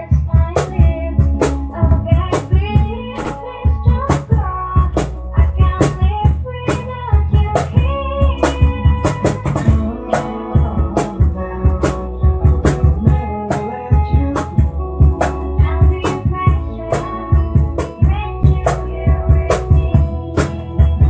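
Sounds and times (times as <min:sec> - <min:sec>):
drum kit beat: 0:00.0 - 0:21.0
guitar: 0:00.0 - 0:21.0
melodic lead line: 0:00.0 - 0:21.0.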